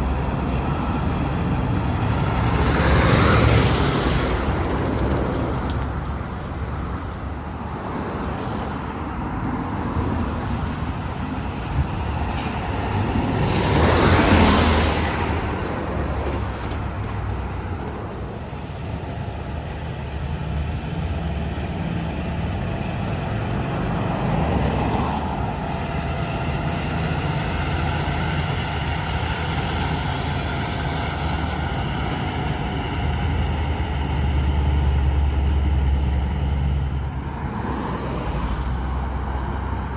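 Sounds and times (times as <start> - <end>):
highway traffic rumble: 0.0 - 39.9
vehicles passing: 0.0 - 39.9.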